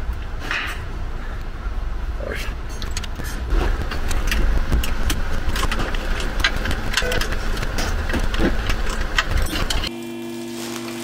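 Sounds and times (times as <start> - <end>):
steady low rumble: 0.0 - 9.9.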